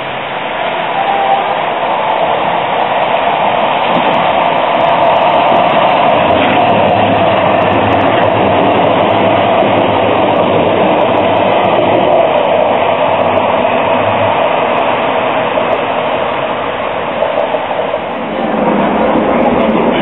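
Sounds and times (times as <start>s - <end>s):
light-rail train rolling past: 0.0s - 20.0s.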